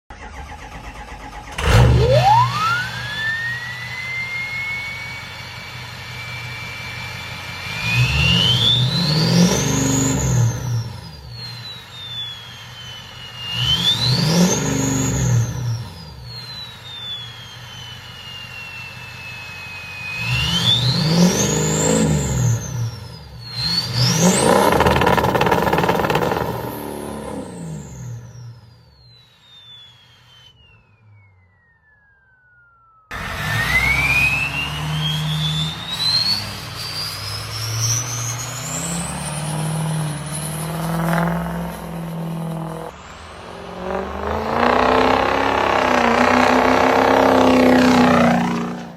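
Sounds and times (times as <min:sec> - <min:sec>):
diesel engine starting and revving: 0:00.0 - 0:29.0, 0:33.1 - 0:48.9
turbo whistle: 0:02.0 - 0:48.9.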